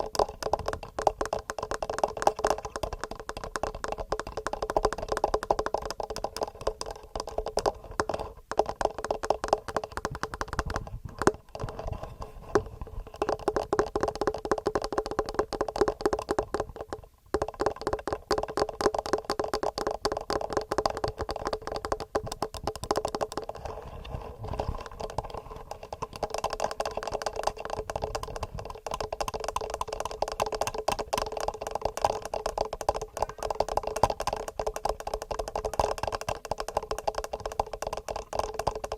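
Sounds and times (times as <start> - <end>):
fingernails tapping on microphone: 0.0 - 38.9.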